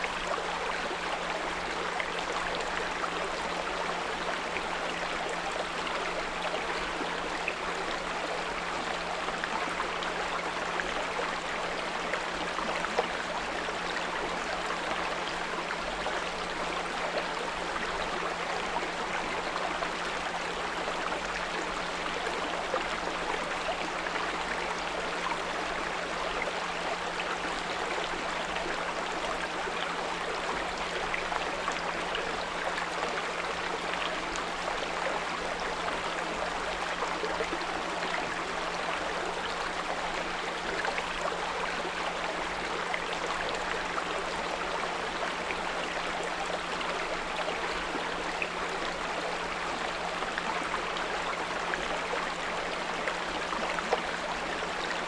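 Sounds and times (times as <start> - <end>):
brook flowing: 0.0 - 55.0.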